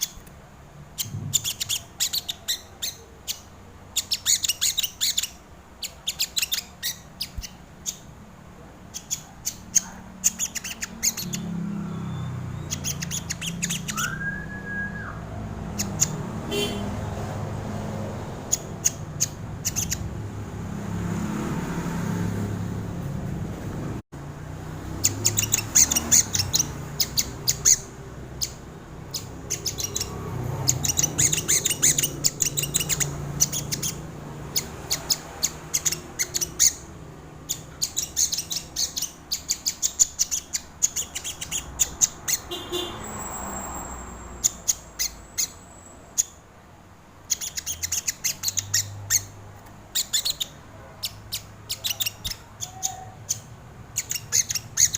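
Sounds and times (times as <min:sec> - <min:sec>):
sunbird chipping calls: 0:00.9 - 0:08.1, 0:08.8 - 0:21.2, 0:24.8 - 0:46.4, 0:47.2 - 0:54.9.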